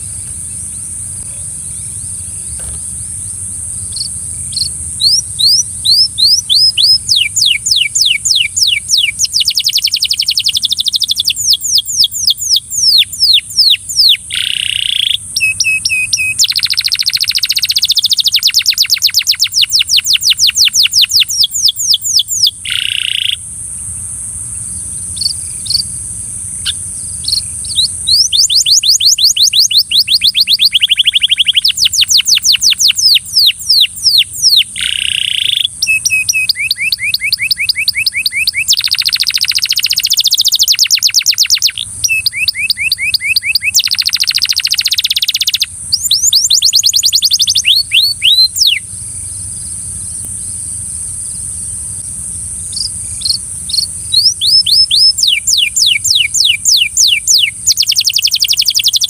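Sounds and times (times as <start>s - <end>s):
canary singing trills: 0.0s - 59.0s
steady high-pitched hiss: 0.0s - 59.0s.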